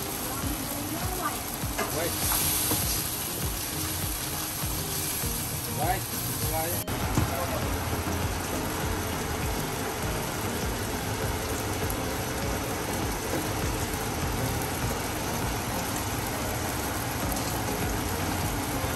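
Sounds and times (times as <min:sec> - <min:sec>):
wine sizzling in a wok: 0:00.0 - 0:18.9.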